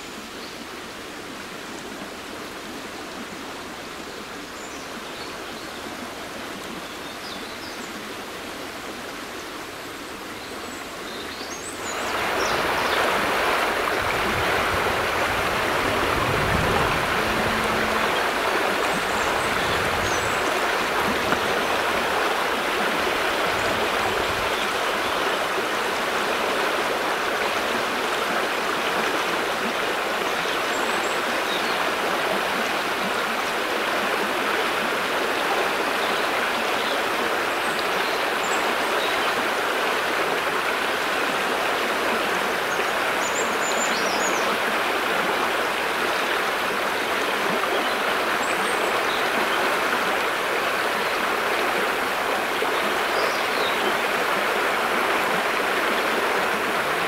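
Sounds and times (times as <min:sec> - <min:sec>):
river rushing over shallows: 0:00.0 - 0:57.0.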